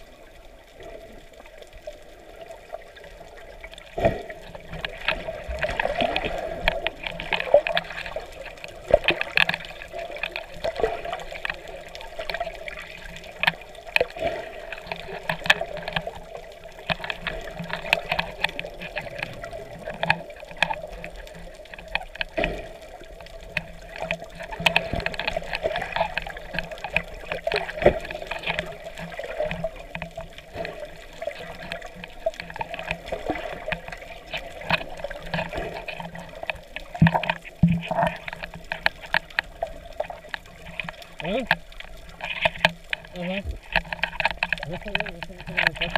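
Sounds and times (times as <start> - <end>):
muffled underwater water sound: 0.0 - 45.9
small underwater clicks: 0.0 - 45.9.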